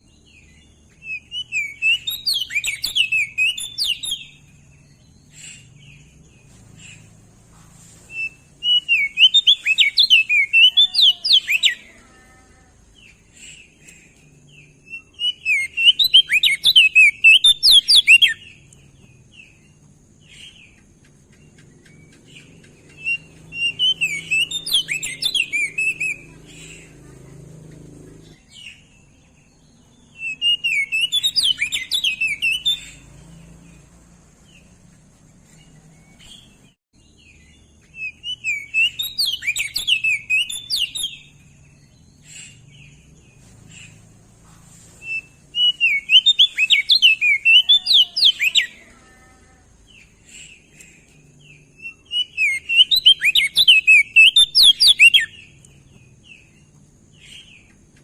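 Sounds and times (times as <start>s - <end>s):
bird warbling high chirps: 0.0s - 7.3s, 7.9s - 12.1s, 12.8s - 44.2s, 44.9s - 57.7s.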